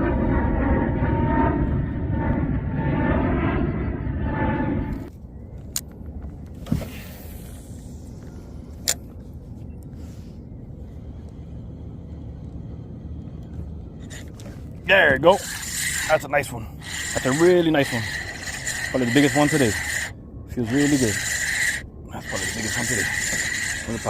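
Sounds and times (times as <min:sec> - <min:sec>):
loud engine drone: 0:00.0 - 0:05.2, 0:07.3 - 0:24.0.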